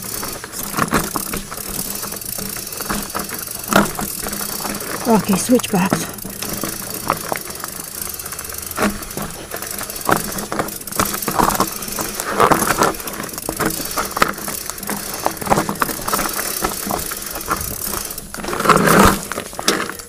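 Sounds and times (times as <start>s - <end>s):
bike rattling over rocky trail: 0.0s - 20.0s.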